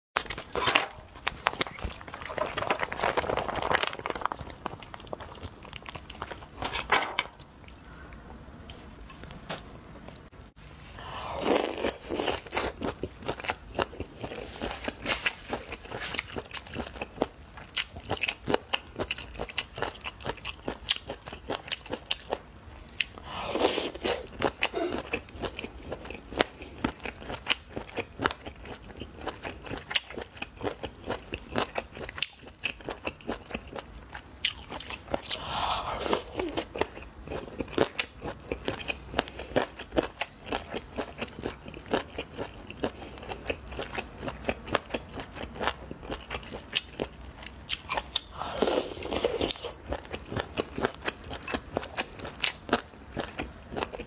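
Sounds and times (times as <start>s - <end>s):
crunching and chewing: 0.2s - 8.2s, 11.3s - 54.0s.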